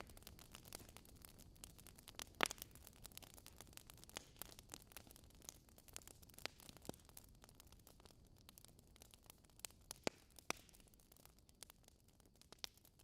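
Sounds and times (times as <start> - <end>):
wood fire hissing and crackling: 0.0 - 13.0.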